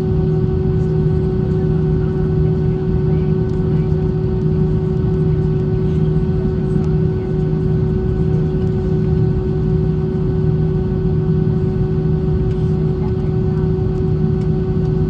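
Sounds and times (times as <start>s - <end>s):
airplane cabin engine drone: 0.0s - 15.0s
constant hum tone: 0.0s - 15.0s.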